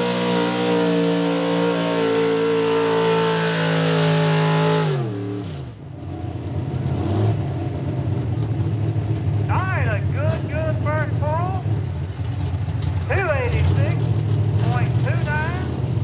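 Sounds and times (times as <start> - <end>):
truck engine screaming at high revs: 0.0 - 16.0.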